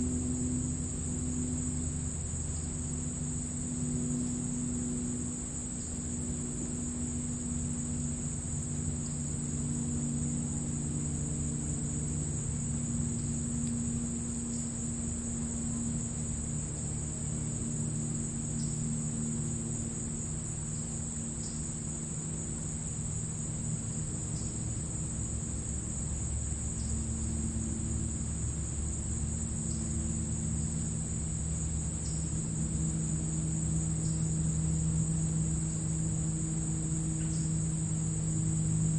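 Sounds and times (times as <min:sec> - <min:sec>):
crickets trilling: 0:00.0 - 0:38.9
low hum with shifting tones: 0:00.0 - 0:38.9.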